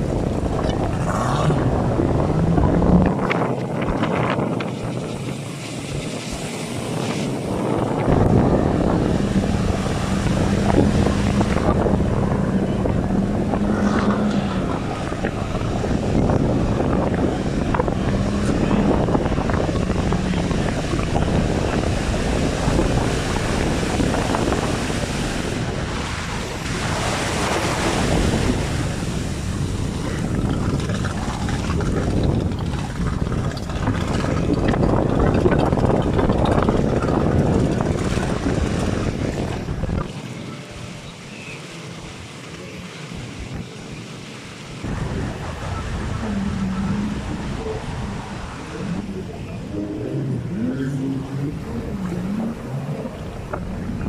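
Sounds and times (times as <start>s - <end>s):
wind buffeting microphone: 0.0s - 41.3s, 41.9s - 54.0s
outboard engine drone: 0.0s - 54.0s
sea surf: 0.0s - 54.0s.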